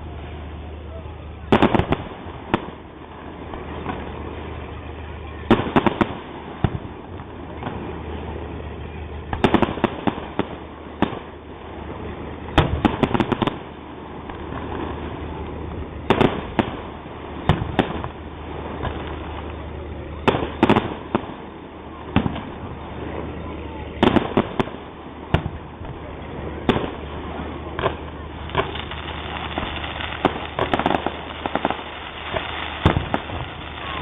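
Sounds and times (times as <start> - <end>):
fireworks bursting: 0.0 - 34.0
low background hum: 0.0 - 34.0.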